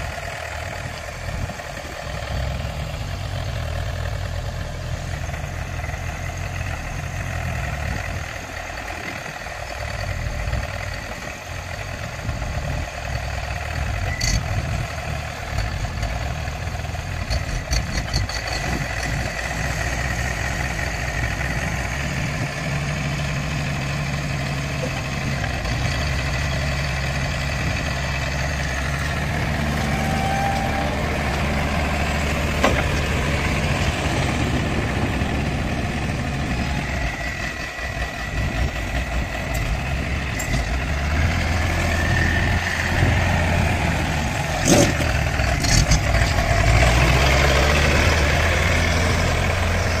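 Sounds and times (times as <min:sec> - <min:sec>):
pile driver engine running: 0:00.0 - 0:50.0.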